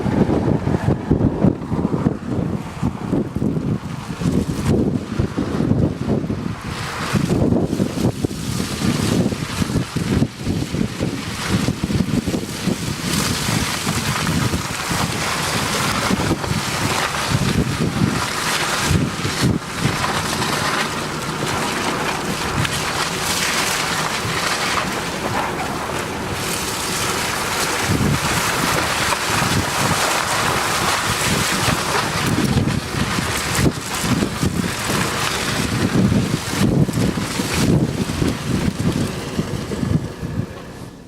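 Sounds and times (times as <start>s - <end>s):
road and tyre noise: 0.0s - 41.0s
wind buffeting microphone: 0.0s - 41.0s.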